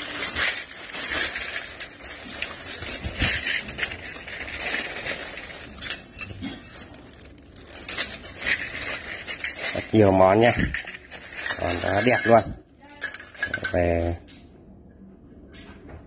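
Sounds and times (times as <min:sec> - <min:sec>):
plastic bag rustling: 0:00.0 - 0:13.6
metal utensils clinking: 0:00.0 - 0:14.2.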